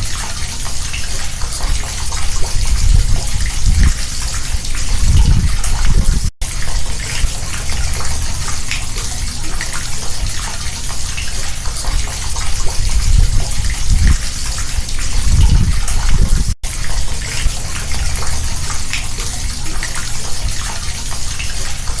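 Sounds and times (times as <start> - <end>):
rainwater gushing into drain: 0.0 - 22.0.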